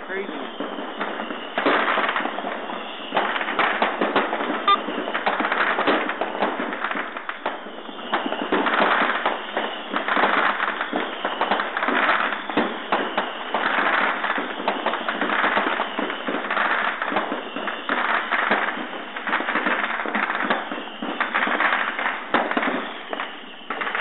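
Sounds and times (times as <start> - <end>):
firecrackers and fireworks banging: 0.0 - 24.0.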